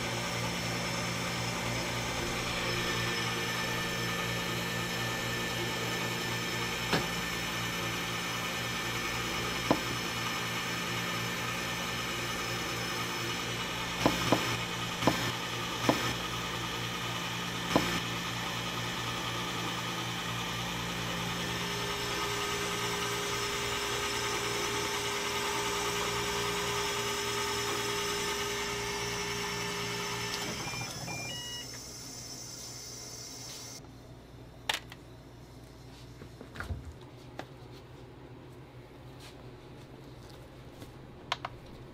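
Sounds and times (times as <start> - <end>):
ice shaving machine humming: 0.0 - 33.8.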